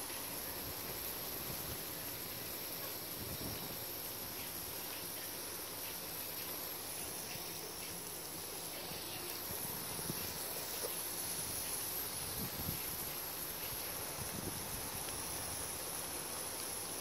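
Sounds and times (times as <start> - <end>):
garden hose spray hissing: 0.0 - 17.0
high wavering insect drone: 0.0 - 17.0.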